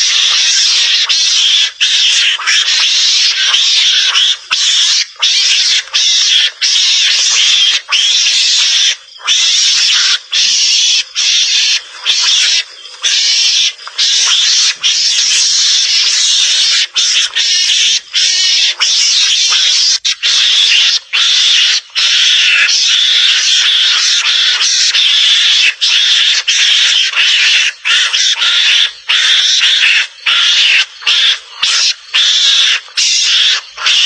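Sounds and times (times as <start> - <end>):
raspy hissing animal calls: 0.0 - 34.0.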